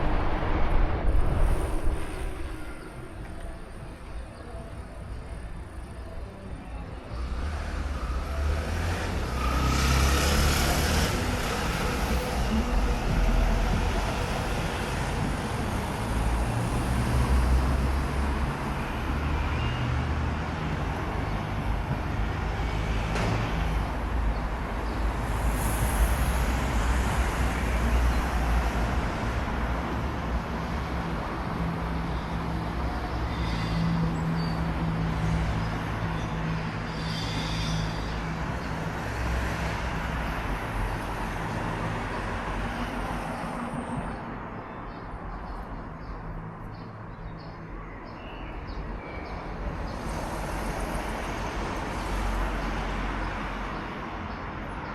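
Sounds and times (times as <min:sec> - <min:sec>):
traffic with low engine hum: 0:00.0 - 0:54.9.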